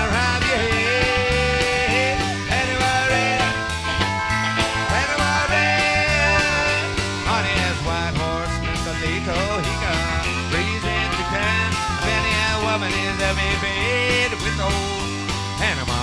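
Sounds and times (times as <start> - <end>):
bass guitar: 0.0 - 16.0
drums with cymbal beat: 0.0 - 16.0
sliding lead guitar: 0.0 - 16.0.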